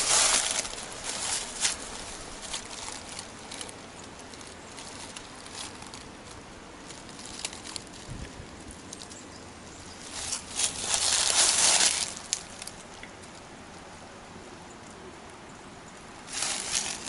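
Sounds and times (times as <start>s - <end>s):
footsteps on dry leaves: 0.0s - 13.0s, 16.2s - 17.0s.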